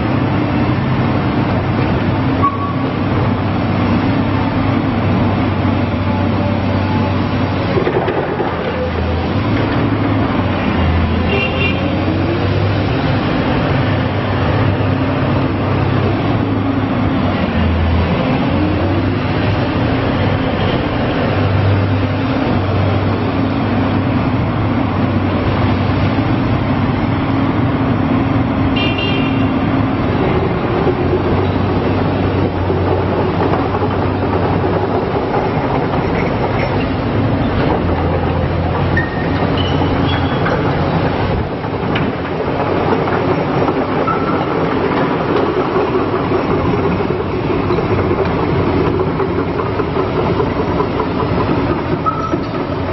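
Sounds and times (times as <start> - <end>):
excavator engine and hydraulics: 0.0 - 52.9.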